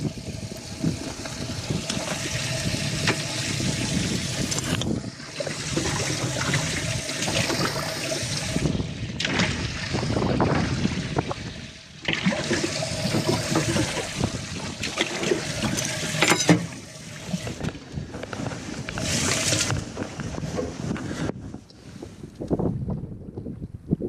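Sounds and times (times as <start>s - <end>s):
water sloshing and trickling: 0.0s - 22.4s.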